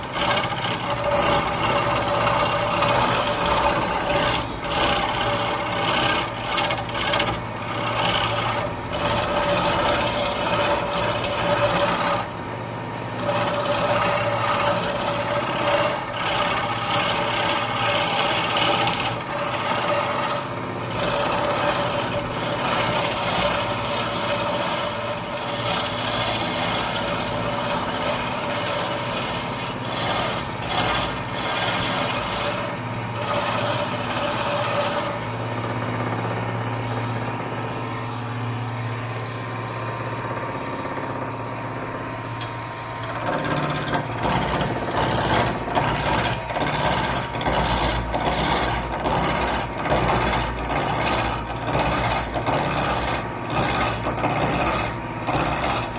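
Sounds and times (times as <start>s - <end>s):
chisel scraping spinning wood: 0.0s - 38.3s, 40.3s - 55.9s
lathe humming: 0.0s - 55.9s.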